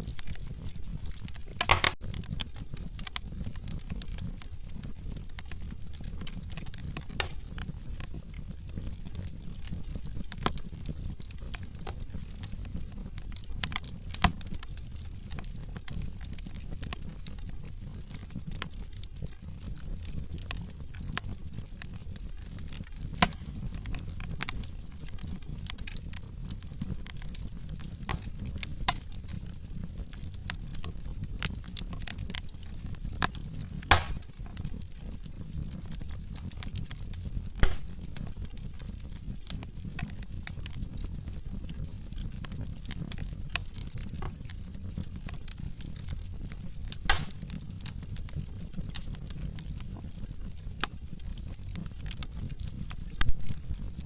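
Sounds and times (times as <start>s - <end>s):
fire crackling in fireplace: 0.0s - 54.0s
wood fire popping: 0.0s - 54.0s.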